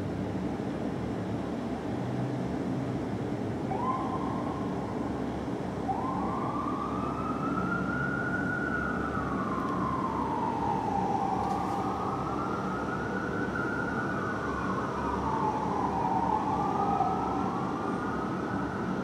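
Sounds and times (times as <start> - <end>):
low rumble of city traffic: 0.0 - 19.0
fire engine siren wailing: 3.7 - 19.0.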